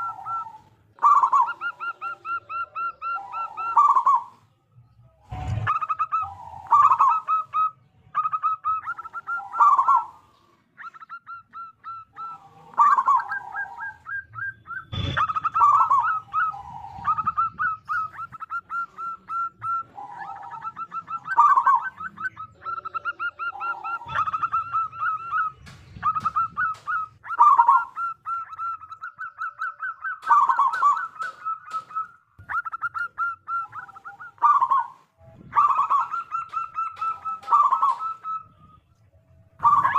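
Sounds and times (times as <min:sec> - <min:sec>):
doves cooing: 0:00.0 - 0:04.6, 0:05.2 - 0:39.9.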